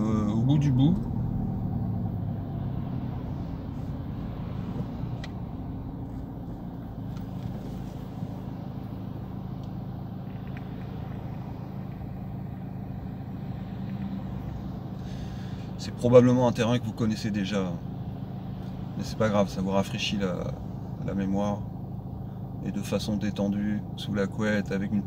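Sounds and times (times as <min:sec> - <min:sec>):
car engine: 0:00.0 - 0:25.0
road noise: 0:00.0 - 0:25.0.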